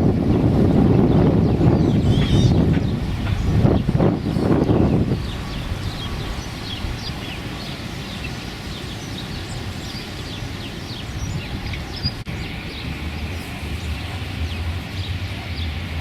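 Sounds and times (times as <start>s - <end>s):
wind rumbling: 0.0s - 16.0s.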